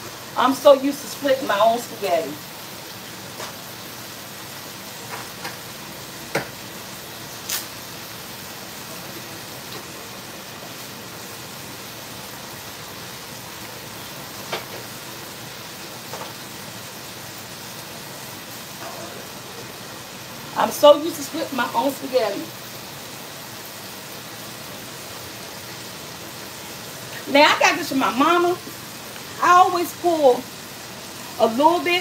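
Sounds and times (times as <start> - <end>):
pot of water boiling: 0.0 - 32.0
sausages sizzling in a pan: 0.0 - 32.0.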